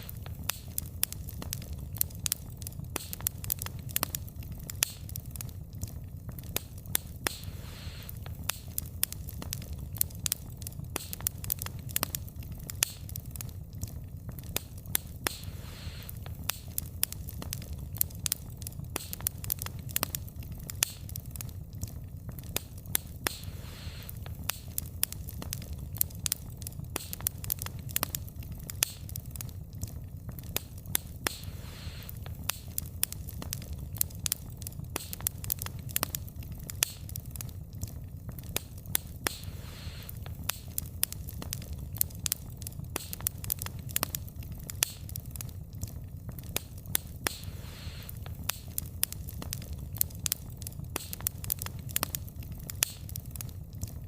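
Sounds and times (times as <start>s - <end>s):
logs popping and snapping: 0.0s - 54.0s
low rumble of flame: 0.0s - 54.0s
soft hiss: 0.0s - 54.0s
wood fire crackling: 0.0s - 54.0s.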